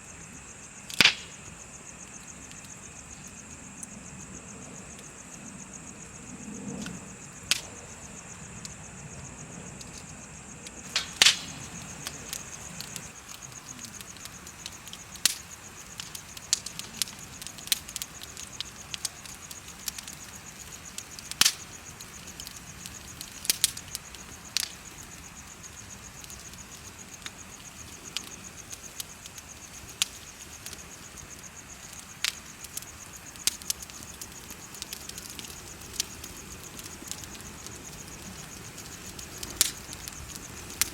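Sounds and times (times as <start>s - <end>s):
insects chirping: 0.0s - 40.9s
bonfire crackling and popping: 0.1s - 40.9s.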